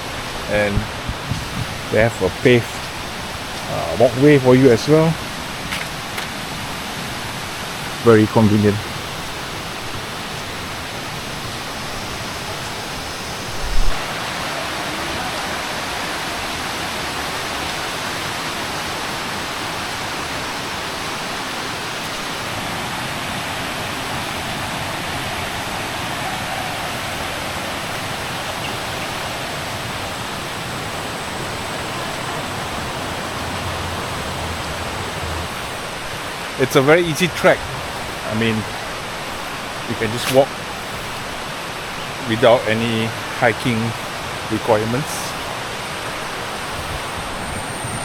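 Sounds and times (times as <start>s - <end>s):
river water rushing over rocks: 0.0s - 48.0s.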